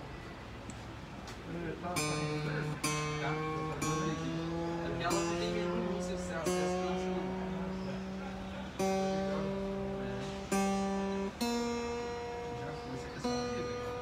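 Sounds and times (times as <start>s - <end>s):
acoustic guitar string plucked: 1.7s - 14.0s.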